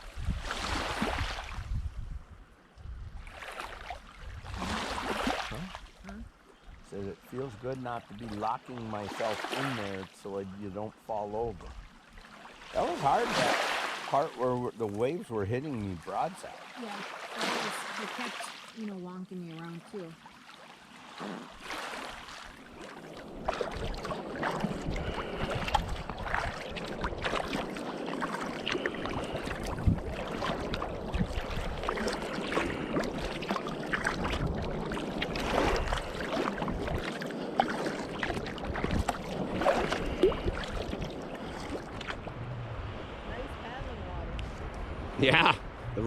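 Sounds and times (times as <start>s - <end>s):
water splashing around kayak: 0.0s - 46.0s.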